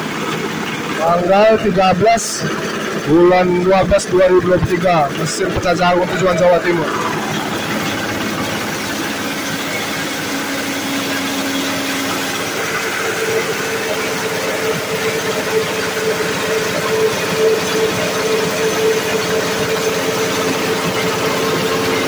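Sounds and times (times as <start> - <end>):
corn cracking machine humming: 0.0 - 22.0.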